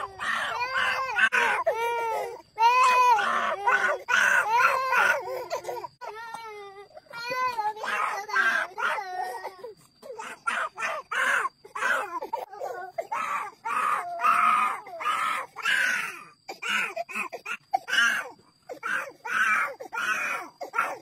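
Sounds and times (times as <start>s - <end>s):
toddlers shouting and babbling: 0.0s - 21.0s.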